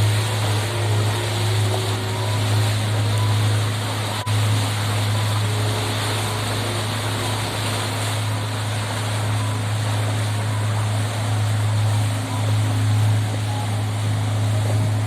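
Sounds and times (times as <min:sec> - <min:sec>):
boat engine droning: 0:00.0 - 0:15.0
water rushing: 0:00.0 - 0:15.0
wind: 0:00.0 - 0:15.0.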